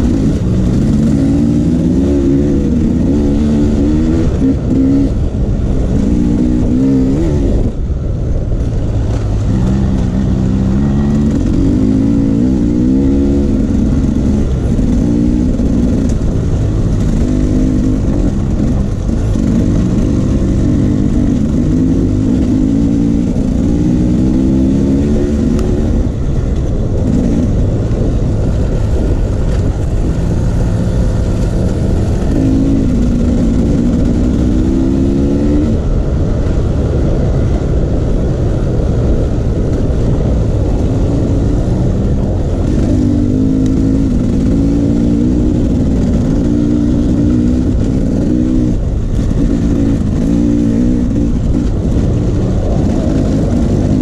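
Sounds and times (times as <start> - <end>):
off-road vehicle engine revving: 0.0 - 37.9, 38.7 - 54.0.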